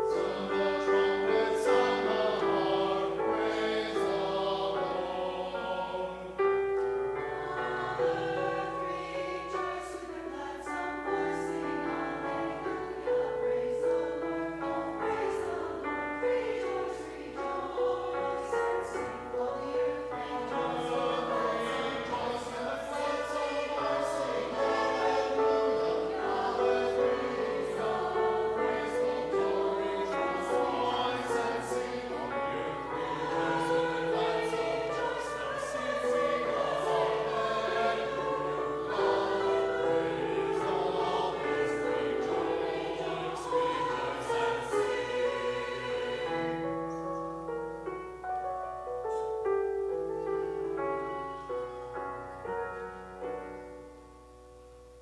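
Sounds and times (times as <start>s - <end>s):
mixed choir singing: 0.0s - 47.7s.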